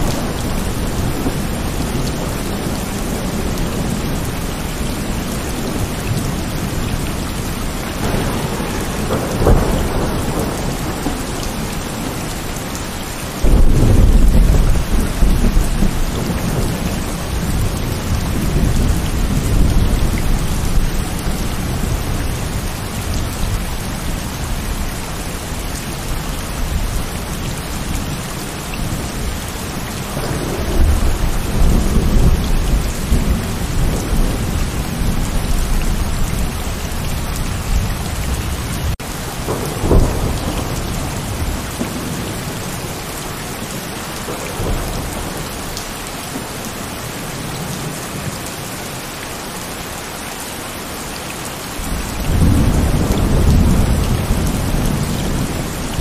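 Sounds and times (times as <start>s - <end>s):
thunder claps and rumbles: 0.0s - 48.6s, 51.8s - 56.0s
heavy rain: 0.0s - 56.0s.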